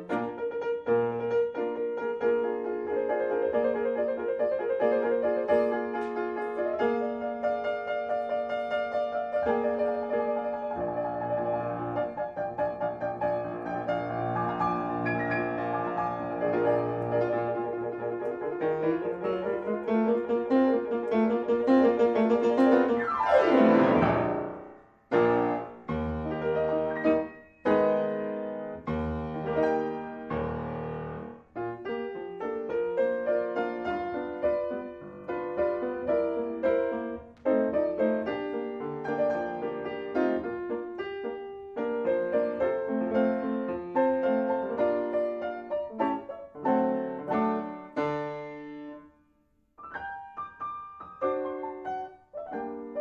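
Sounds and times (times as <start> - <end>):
solo piano music: 0.0 - 53.0.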